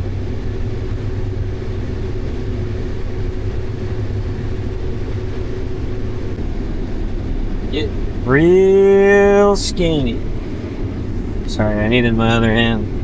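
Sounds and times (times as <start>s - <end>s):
combine harvester drone: 0.0s - 13.0s.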